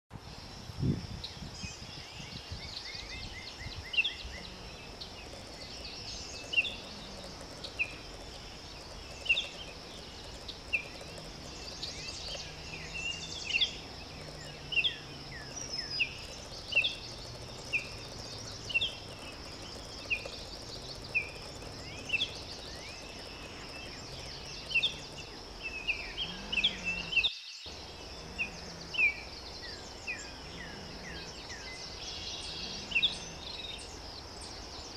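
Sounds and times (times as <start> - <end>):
steady high-pitched hiss: 0.1 - 34.9.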